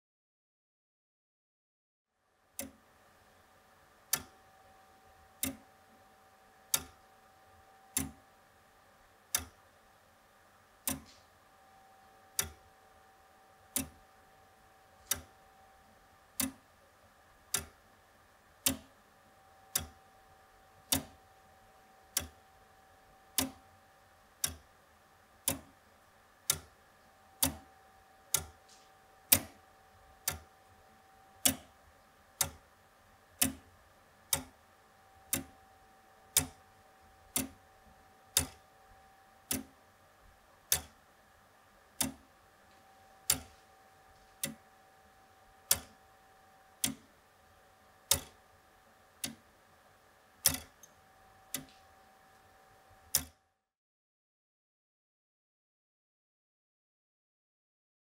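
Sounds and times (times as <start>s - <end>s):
wall clock ticking: 2.6s - 2.9s, 4.0s - 9.8s, 10.7s - 53.4s.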